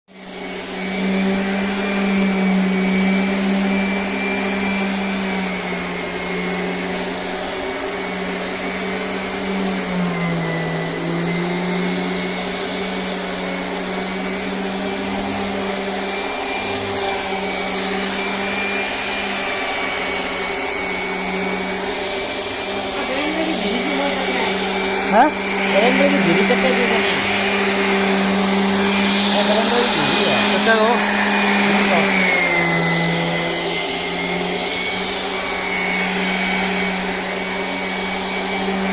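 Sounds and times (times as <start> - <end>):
power tool motor whirring: 0.1 - 38.9.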